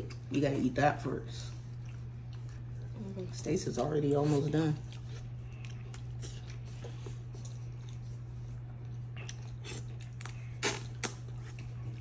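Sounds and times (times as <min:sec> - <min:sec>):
steady low hum: 0:00.0 - 0:12.0
quiet chewing: 0:01.3 - 0:12.0.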